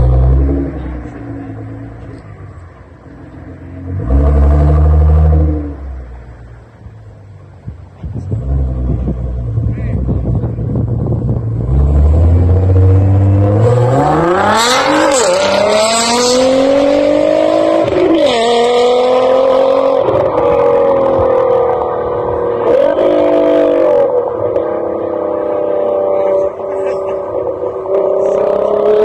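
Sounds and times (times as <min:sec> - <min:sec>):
car engine accelerating hard: 0:00.0 - 0:06.6, 0:07.9 - 0:29.0.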